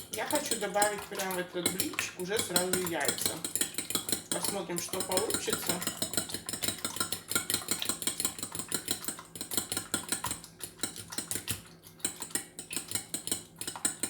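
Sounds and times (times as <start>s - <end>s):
fork clinking on bowl beating eggs: 0.0s - 14.0s.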